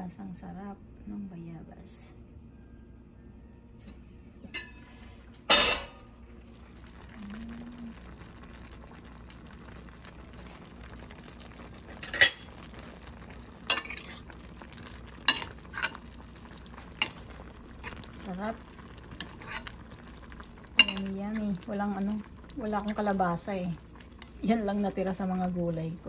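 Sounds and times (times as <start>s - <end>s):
low hiss from simmering pot: 3.7s - 26.0s.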